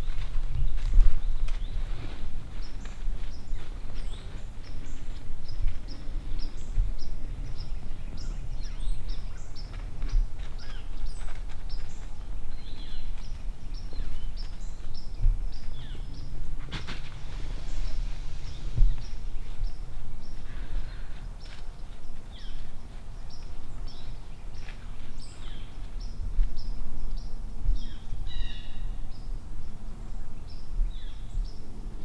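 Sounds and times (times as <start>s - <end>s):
steady low rumble: 0.0s - 28.3s
rustle: 0.0s - 32.0s
small birds chirping: 0.0s - 32.0s.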